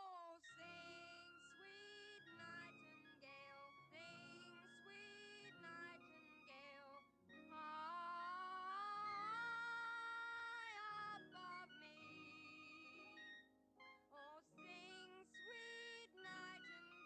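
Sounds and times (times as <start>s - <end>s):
woman singing off-key: 0.0s - 13.2s, 14.1s - 17.0s.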